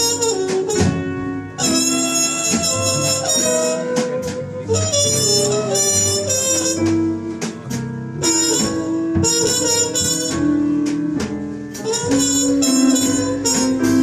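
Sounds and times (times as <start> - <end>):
bass and drums: 0.0 - 14.0
horn melody: 0.0 - 14.0.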